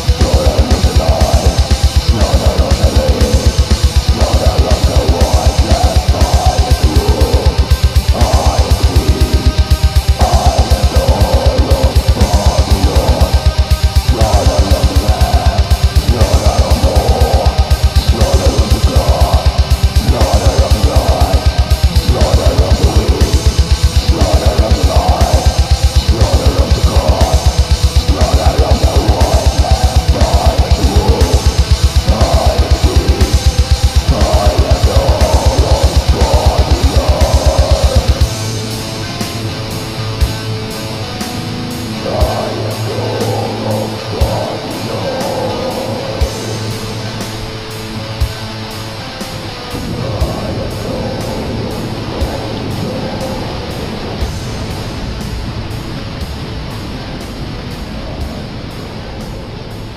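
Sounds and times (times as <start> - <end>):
distorted electric guitars: 0.0 - 59.9
fast pulsing kick drum: 0.0 - 59.9.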